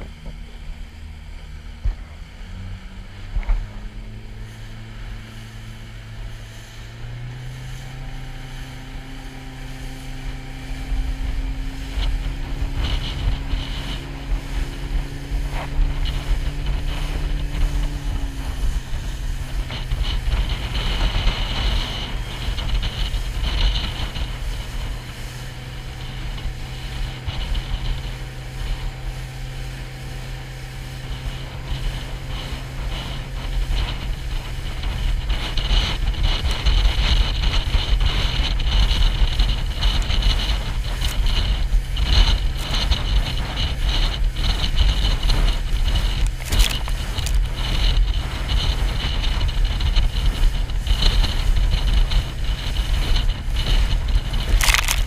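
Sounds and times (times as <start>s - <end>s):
outboard motor running: 0.0s - 55.0s
wind on microphone: 0.0s - 55.0s.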